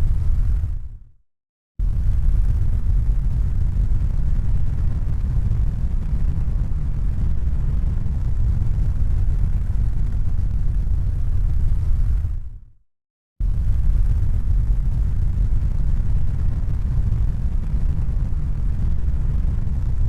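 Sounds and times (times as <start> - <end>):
low rumbling noise: 0.0 - 1.1, 1.8 - 12.6, 13.4 - 20.0.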